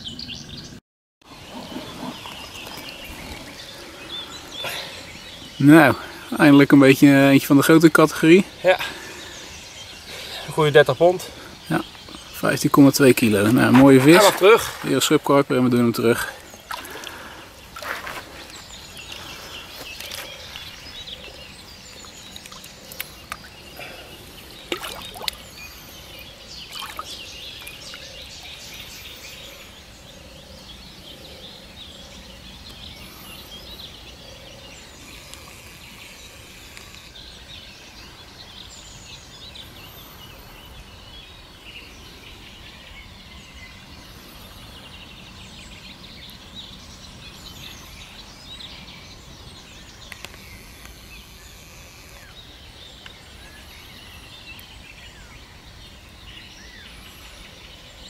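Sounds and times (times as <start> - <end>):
birds singing and chirping: 0.0 - 58.0
outdoor background noise: 0.0 - 58.0.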